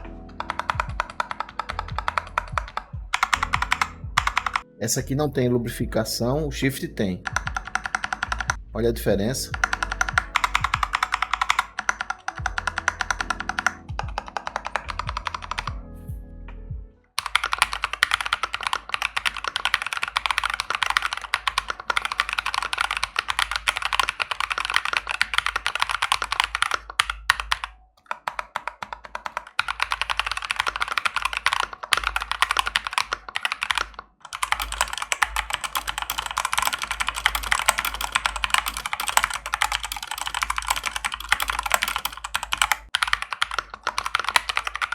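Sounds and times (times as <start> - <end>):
mechanical keyboard typing: 0.0 - 4.7, 7.0 - 8.6, 9.2 - 15.8, 17.2 - 44.9
background music: 0.0 - 44.9.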